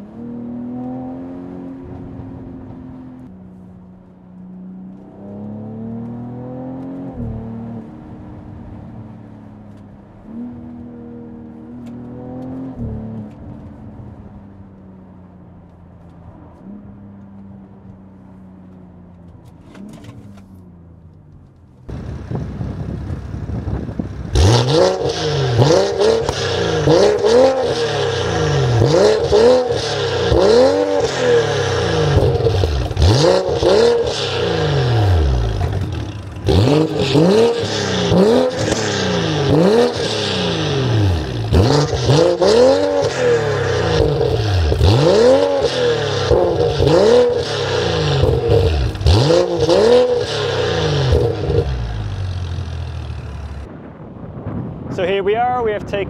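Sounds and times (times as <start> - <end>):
car engine revving: 0.0 - 15.3, 16.0 - 53.7.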